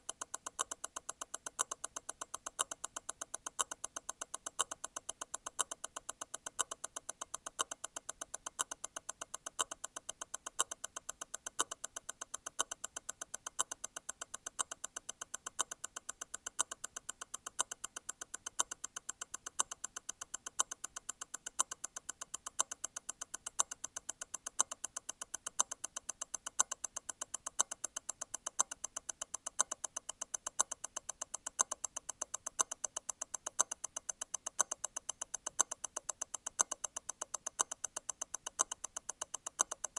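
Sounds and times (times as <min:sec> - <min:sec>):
louder watch tick: 0:00.0 - 0:39.9
watch movement ticking: 0:00.0 - 0:39.9.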